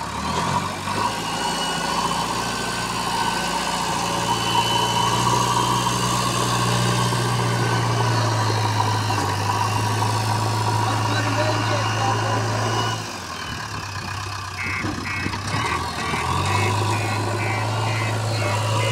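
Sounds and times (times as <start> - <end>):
diesel engine running at low revs: 0.0 - 18.9.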